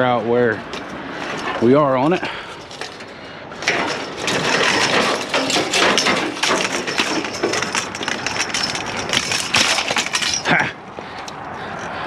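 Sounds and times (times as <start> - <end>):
scrap metal clattering and scraping: 0.6 - 10.8.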